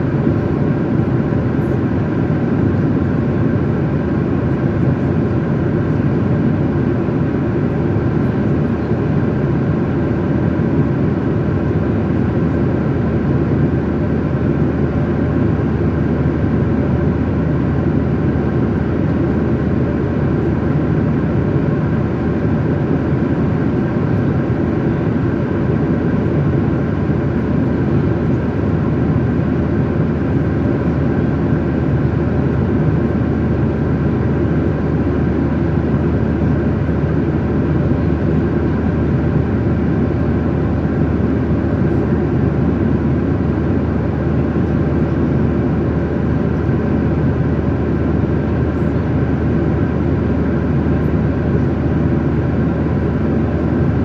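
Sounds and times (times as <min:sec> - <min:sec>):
airliner engine rumble: 0:00.0 - 0:54.0.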